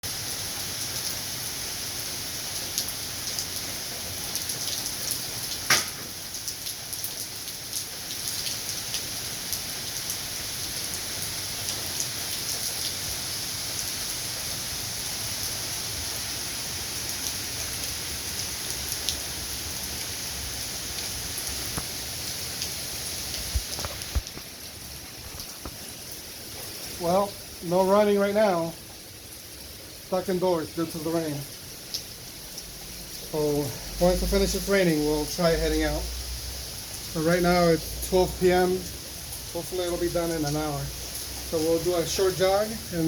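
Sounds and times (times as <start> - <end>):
raindrops ticking on a surface: 0.0 - 43.0
steady rainfall: 0.0 - 43.0.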